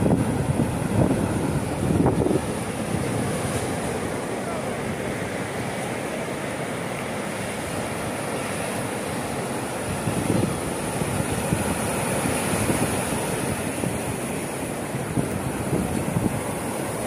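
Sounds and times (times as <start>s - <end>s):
sea surf breaking on beach: 0.0s - 17.0s.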